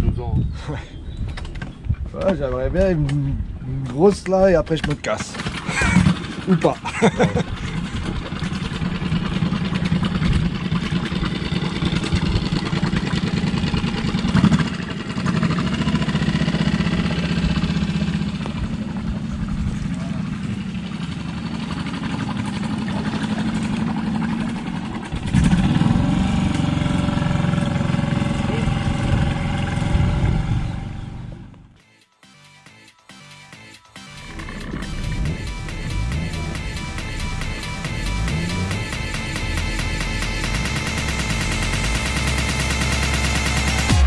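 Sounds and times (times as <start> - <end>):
boat outboard motor running: 5.1 - 31.7, 34.2 - 44.0.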